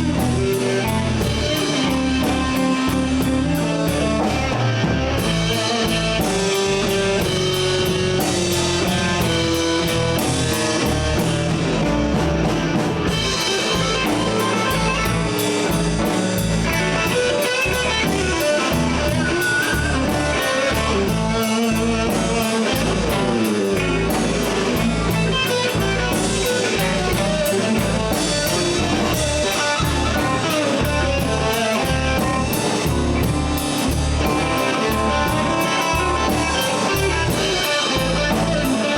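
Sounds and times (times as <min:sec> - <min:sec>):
bass and drum kit beat: 0:00.0 - 0:38.9
blues band playing: 0:00.0 - 0:38.9
lead guitar with bends: 0:00.0 - 0:38.9.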